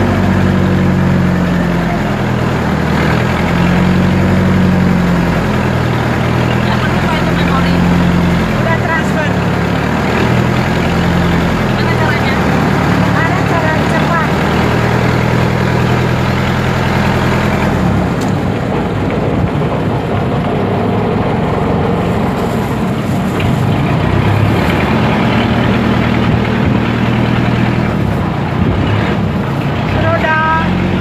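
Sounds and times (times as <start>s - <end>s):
boat engine droning: 0.0s - 31.0s
water rushing: 0.0s - 31.0s.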